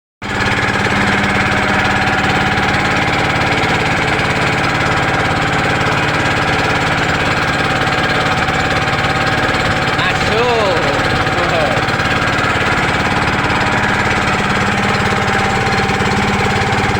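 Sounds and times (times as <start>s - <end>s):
small engine running: 0.3s - 16.9s.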